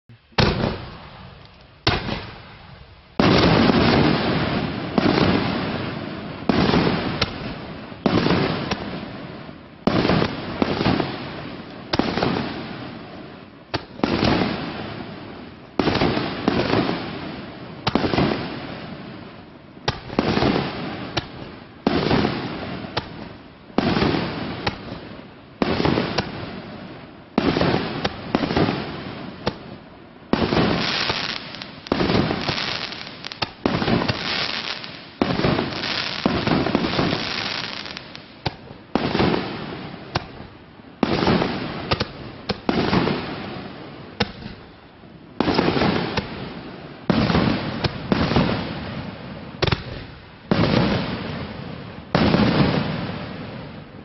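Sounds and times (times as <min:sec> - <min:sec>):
fireworks bangs: 0:00.3 - 0:53.9.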